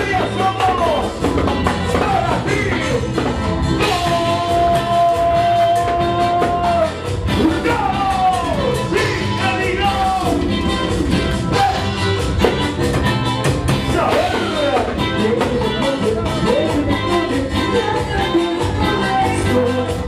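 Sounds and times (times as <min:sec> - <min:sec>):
live band music: 0:00.0 - 0:20.0
sliding melody line: 0:00.0 - 0:20.0.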